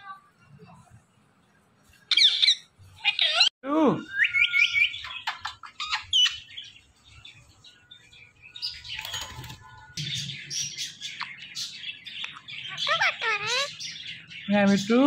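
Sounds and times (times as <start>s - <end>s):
parakeets calling: 2.1s - 3.5s, 4.2s - 15.0s.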